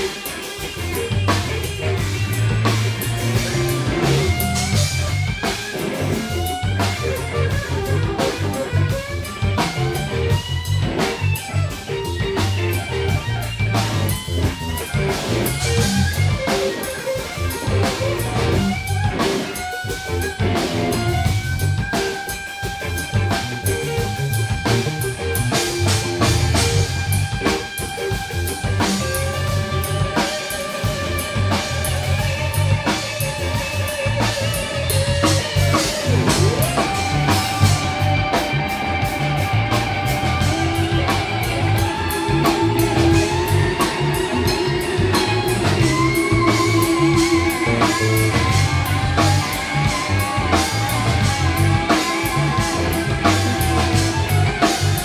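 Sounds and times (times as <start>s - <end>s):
drum kit beat: 0.0s - 55.0s
electric guitar lead: 0.0s - 55.0s
second electric guitar: 0.0s - 55.0s.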